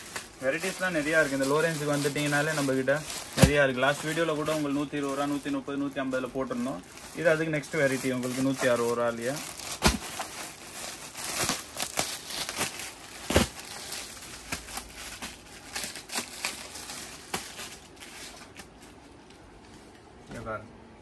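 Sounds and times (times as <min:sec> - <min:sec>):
cloth garments rustling: 0:00.0 - 0:19.9.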